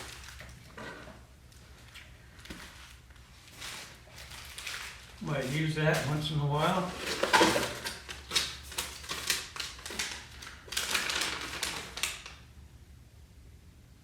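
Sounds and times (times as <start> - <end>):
packaging rustling: 0.0 - 1.2, 1.8 - 12.4.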